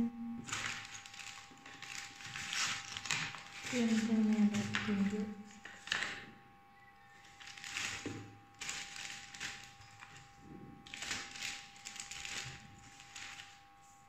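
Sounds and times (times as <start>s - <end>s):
plastic bag crinkling: 0.4s - 6.3s, 7.1s - 13.6s.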